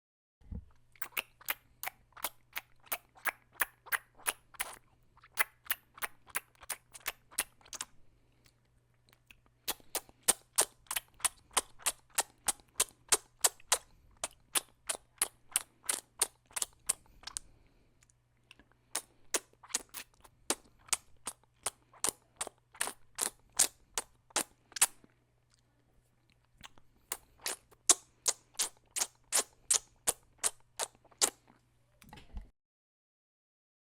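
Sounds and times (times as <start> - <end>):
lips smacking and popping: 1.0 - 17.4, 18.0 - 25.6, 26.3 - 31.6.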